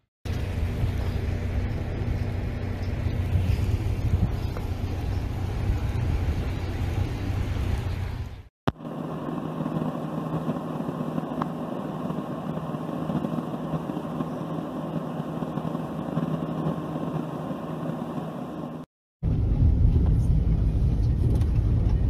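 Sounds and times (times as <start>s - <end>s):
steady low hum: 0.3s - 22.0s.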